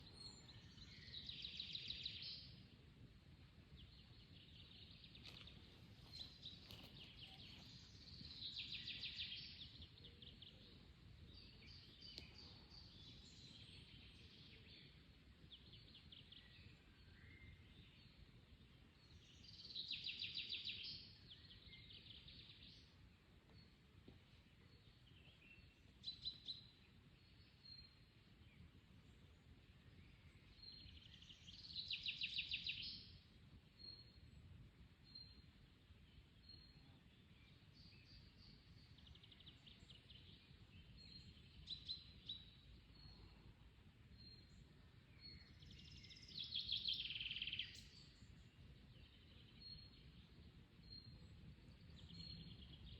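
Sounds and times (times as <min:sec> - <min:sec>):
soft bird chirps: 0:03.7 - 0:52.9.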